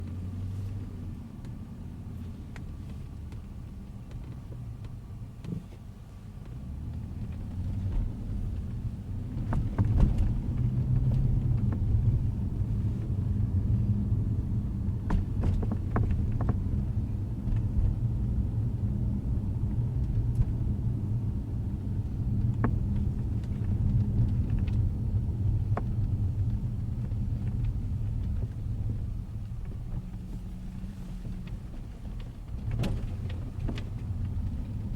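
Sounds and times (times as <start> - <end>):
car road rumble: 0.0 - 34.9.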